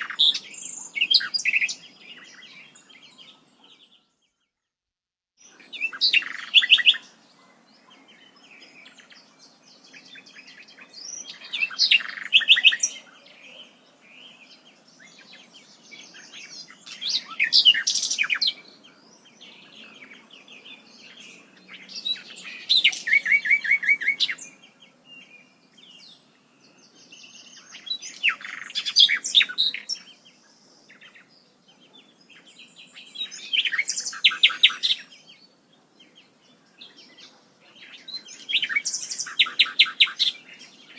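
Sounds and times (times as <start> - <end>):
faint bird chirps: 0.0 - 4.7, 5.4 - 40.9.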